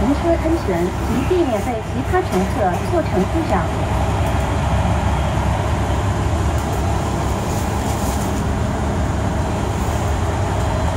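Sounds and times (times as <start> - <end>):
bus engine droning: 0.0 - 10.9.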